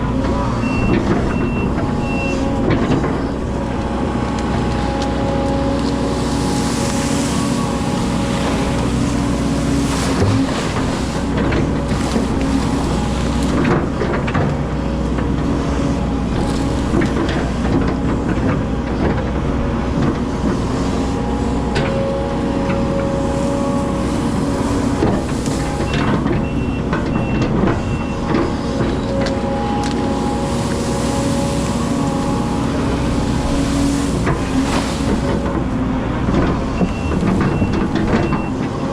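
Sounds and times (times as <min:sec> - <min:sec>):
machine knocks and clanks: 0:00.0 - 0:05.5, 0:08.6 - 0:15.6, 0:16.2 - 0:23.5, 0:24.6 - 0:32.0, 0:32.6 - 0:38.9
excavator diesel engine running: 0:00.0 - 0:38.9.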